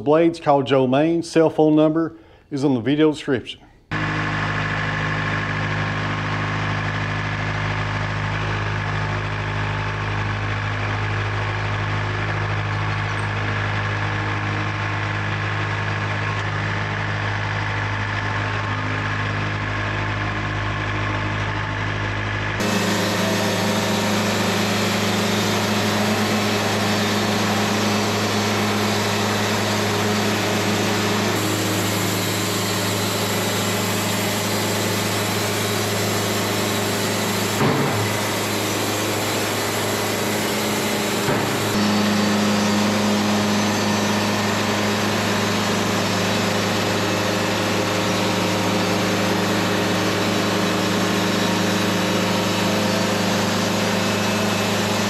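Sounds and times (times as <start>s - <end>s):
band sawmill cutting log: 3.9s - 55.0s.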